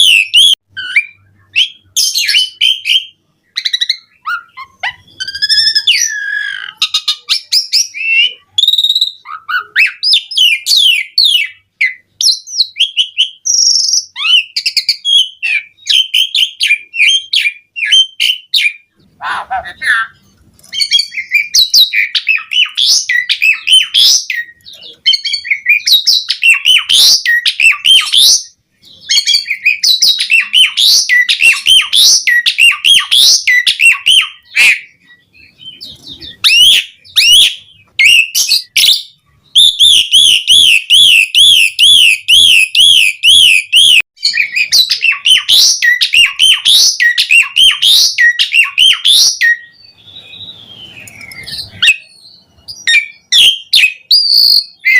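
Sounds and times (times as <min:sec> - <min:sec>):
starling whistling and chattering: 0:00.0 - 0:54.9.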